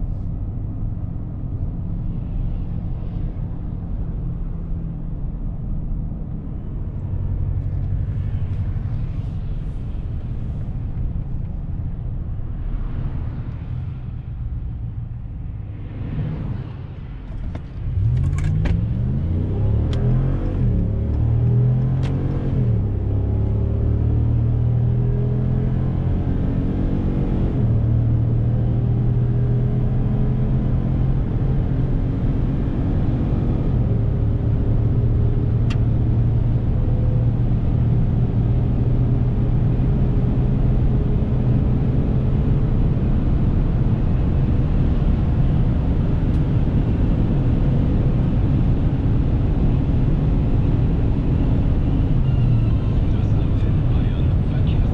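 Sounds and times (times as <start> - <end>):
road noise: 0.0 - 54.9
truck engine accelerating: 6.1 - 54.9.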